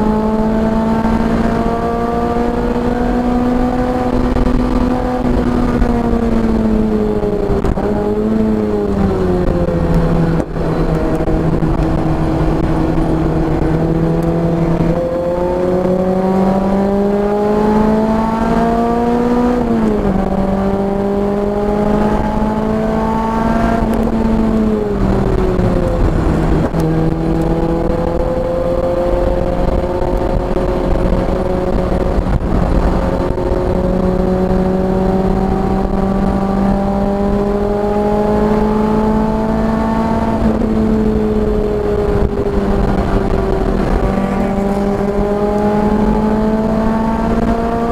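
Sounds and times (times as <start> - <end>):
car engine running hard: 0.0 - 47.9
road and wind noise: 0.0 - 47.9.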